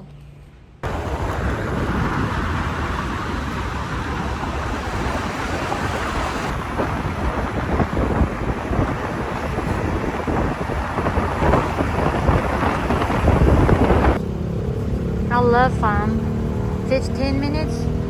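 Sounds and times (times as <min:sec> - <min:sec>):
wind buffeting microphone: 0:00.8 - 0:18.0.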